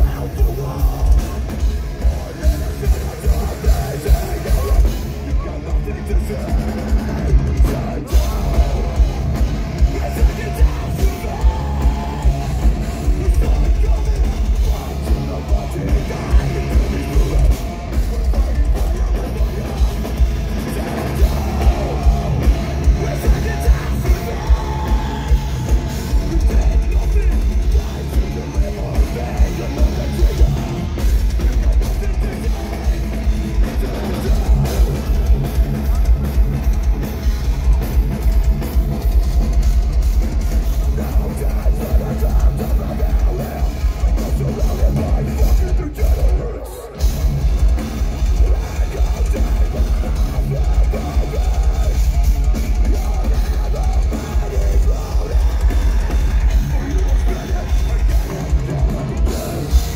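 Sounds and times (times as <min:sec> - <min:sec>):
metal band playing live: 0:00.0 - 0:59.9.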